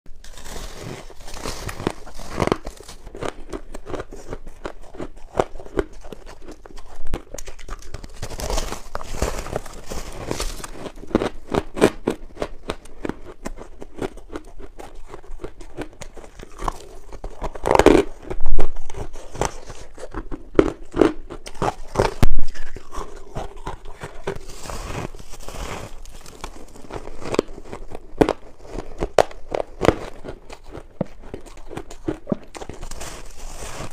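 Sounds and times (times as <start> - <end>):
ice being chewed: 0.1 - 33.9.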